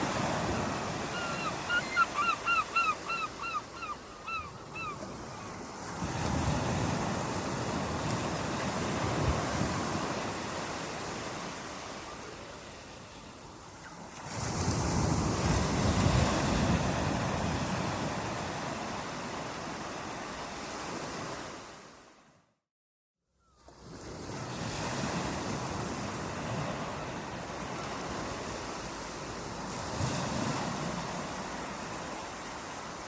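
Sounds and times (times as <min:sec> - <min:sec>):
surf breaking and washing in: 0:00.0 - 0:02.0, 0:05.0 - 0:13.0, 0:14.0 - 0:22.2, 0:23.8 - 0:33.0.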